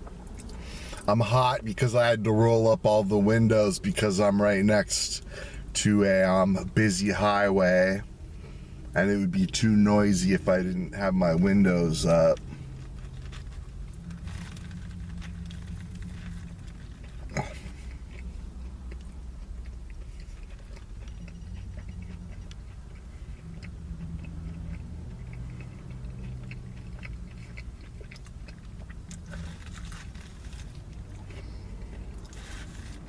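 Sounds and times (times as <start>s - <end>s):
person chewing crispy food: 0.0s - 3.3s, 4.0s - 33.0s
steady low rumble: 0.0s - 33.0s.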